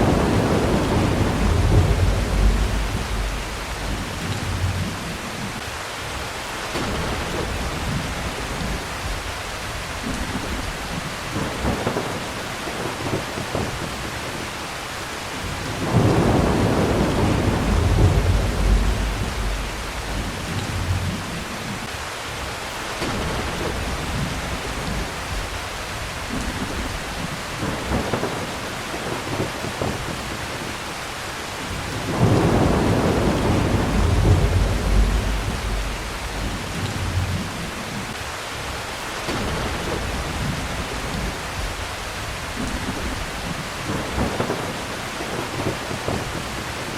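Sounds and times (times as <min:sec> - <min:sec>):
thunder rumbling: 0:00.0 - 0:05.6, 0:06.7 - 0:14.5, 0:15.4 - 0:21.9, 0:23.0 - 0:30.9, 0:31.7 - 0:38.2, 0:39.3 - 0:46.9
heavy rain: 0:00.0 - 0:46.9.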